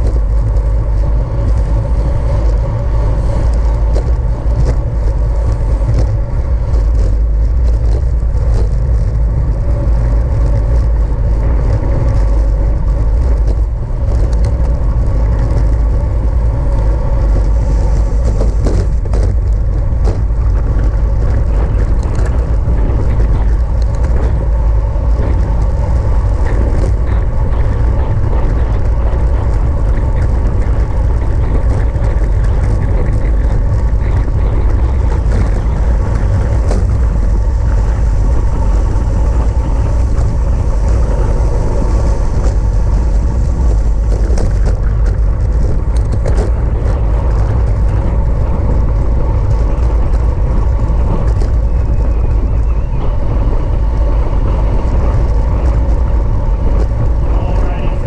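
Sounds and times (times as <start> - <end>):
wind rumbling over microphone: 0.0 - 58.0.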